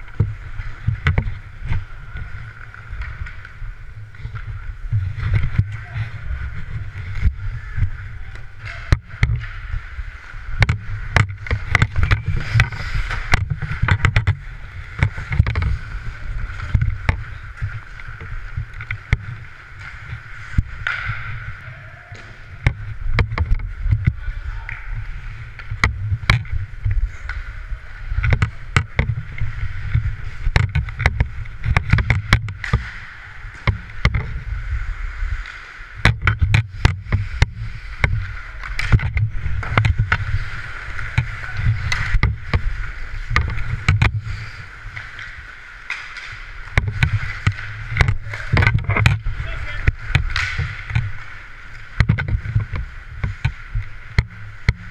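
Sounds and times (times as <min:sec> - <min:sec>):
low microphone rumble: 0:00.0 - 0:45.6
skate blades scraping ice: 0:00.0 - 0:54.9
stick and puck clacks: 0:00.0 - 0:54.9.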